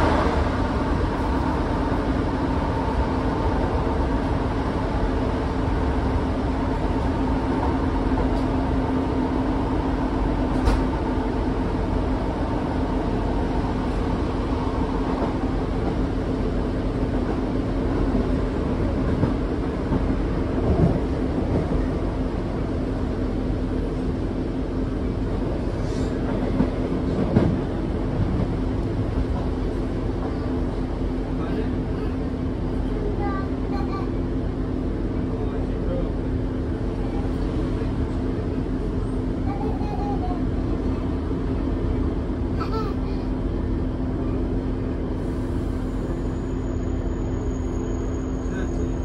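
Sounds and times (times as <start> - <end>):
train diesel engine drone: 0.0 - 49.0.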